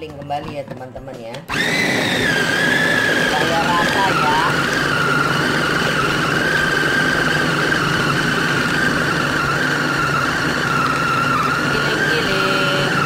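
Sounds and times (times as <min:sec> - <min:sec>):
electric food chopper whining: 0:01.5 - 0:13.0.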